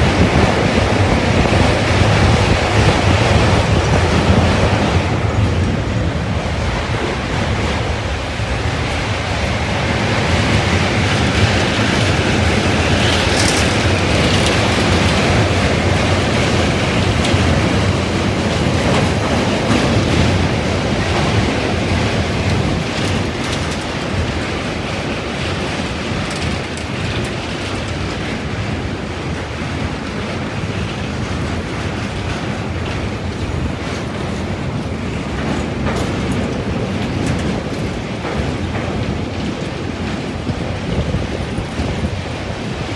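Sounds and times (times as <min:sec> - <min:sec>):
train rumbling over rail bridge: 0:00.0 - 0:42.9.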